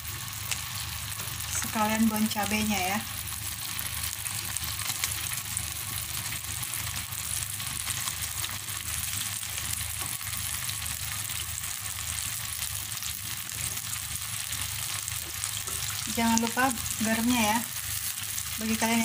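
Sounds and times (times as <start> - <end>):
sauce sizzling in a wok: 0.0 - 19.0.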